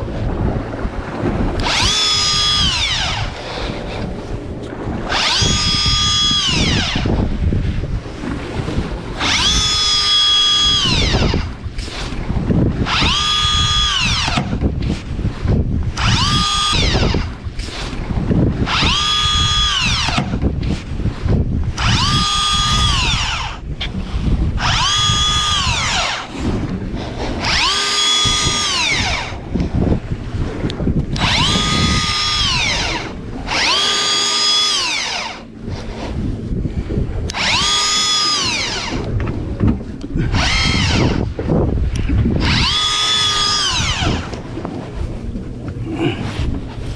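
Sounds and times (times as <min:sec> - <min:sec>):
electric fishing reel motor whining: 0:01.5 - 0:14.9, 0:15.9 - 0:20.7, 0:21.3 - 0:30.1, 0:31.1 - 0:36.3, 0:37.3 - 0:39.3, 0:40.2 - 0:41.4, 0:42.0 - 0:44.6.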